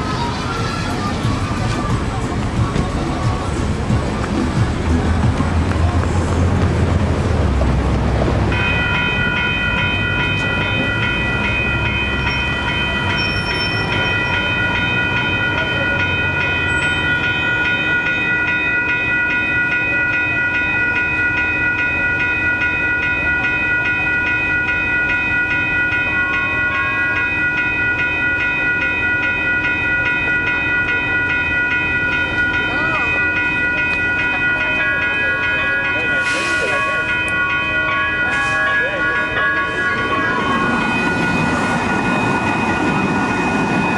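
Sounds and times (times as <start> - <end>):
crossing warning bell ringing: 0.0 - 43.9
light-rail train rumbling past: 0.0 - 43.9.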